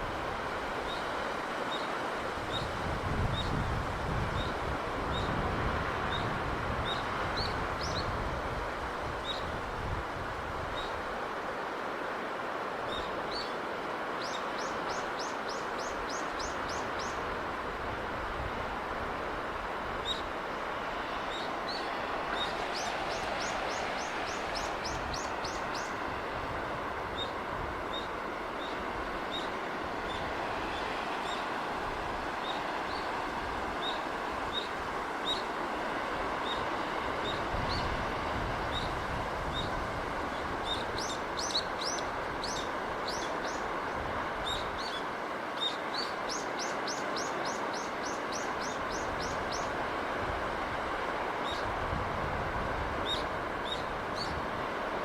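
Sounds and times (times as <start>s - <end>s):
sea breeze and surf: 0.0s - 55.0s.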